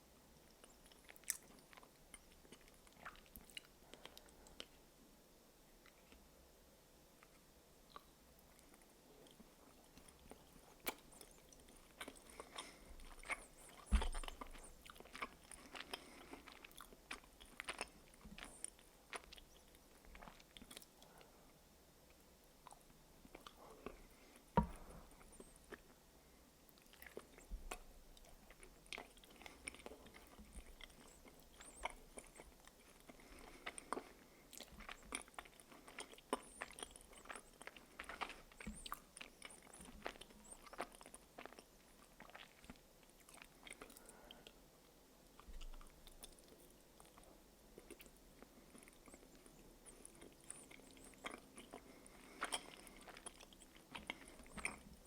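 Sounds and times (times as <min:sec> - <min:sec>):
biting and chewing chocolate: 0:00.5 - 0:04.8, 0:07.2 - 0:21.4, 0:22.1 - 0:26.0, 0:26.7 - 0:55.0.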